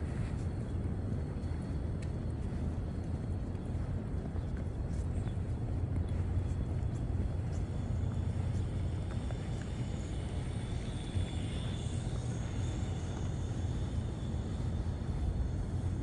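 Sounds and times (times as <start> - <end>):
distant city traffic rumble: 0.0 - 16.0
faint high whine: 0.0 - 16.0.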